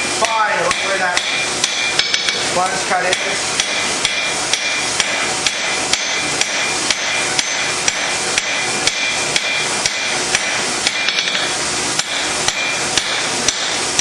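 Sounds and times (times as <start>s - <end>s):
hammer striking steel on anvil: 0.2s - 2.4s, 3.1s - 13.8s.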